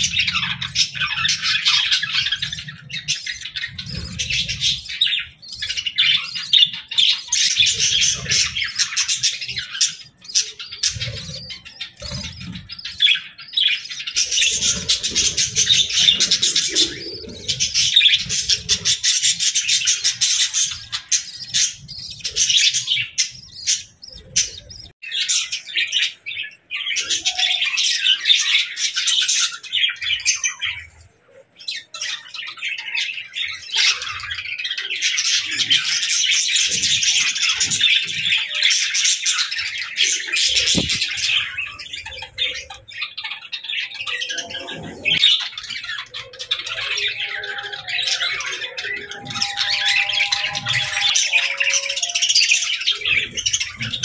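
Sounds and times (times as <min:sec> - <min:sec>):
budgerigars chirping and squawking: 0:00.0 - 0:54.0.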